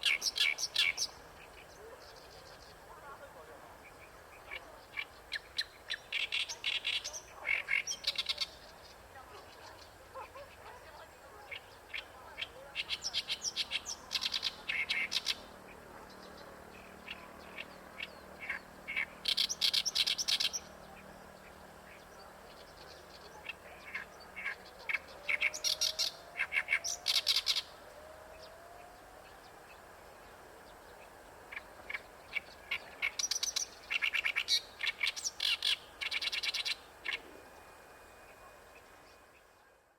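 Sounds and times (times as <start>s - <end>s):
reed warbler chattering song: 0.0s - 39.6s.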